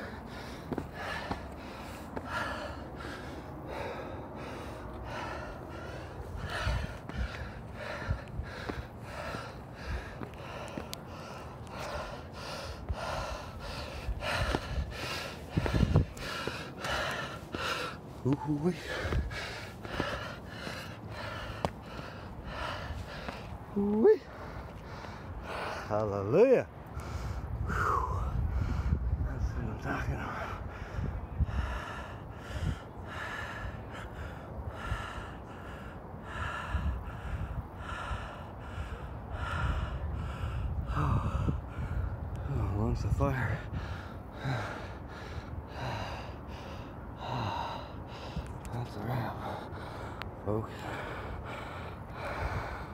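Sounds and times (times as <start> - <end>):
man breathing hard: 0.0 - 26.2, 26.8 - 42.7, 43.3 - 52.9.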